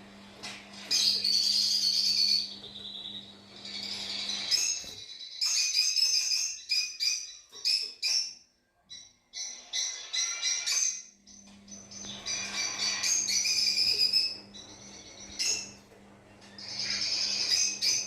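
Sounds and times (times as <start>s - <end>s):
lovebirds chirping and chattering: 0.8s - 18.0s.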